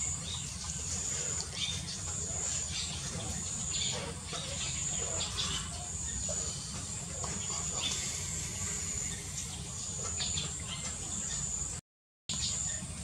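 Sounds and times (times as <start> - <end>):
insects trilling: 0.0 - 11.8.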